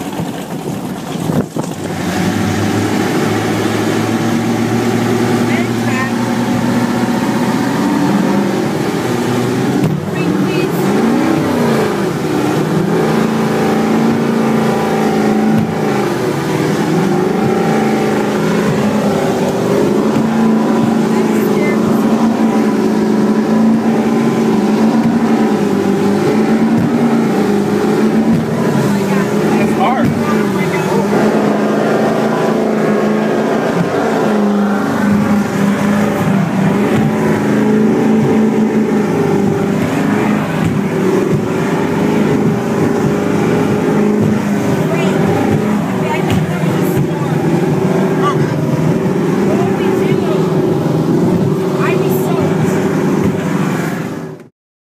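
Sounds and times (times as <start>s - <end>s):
powerboat engine running hard: 0.0s - 54.5s.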